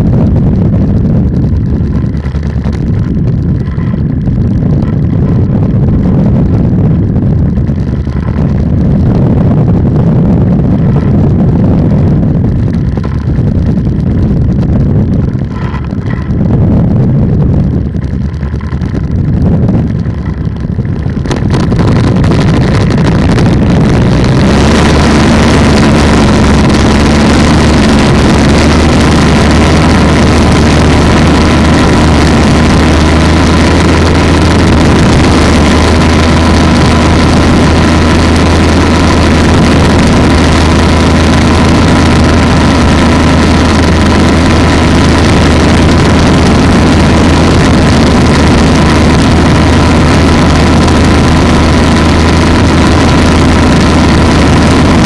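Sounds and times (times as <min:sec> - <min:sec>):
two-stroke engine running: 0:00.0 - 0:55.0
wind buffeting microphone: 0:00.0 - 0:55.0.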